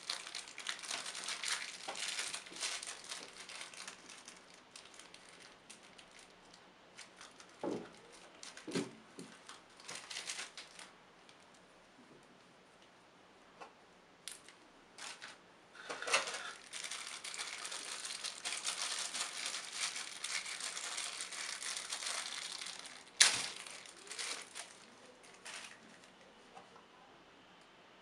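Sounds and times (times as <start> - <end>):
plastic bag crinkling: 0.0 - 10.9, 14.3 - 26.2.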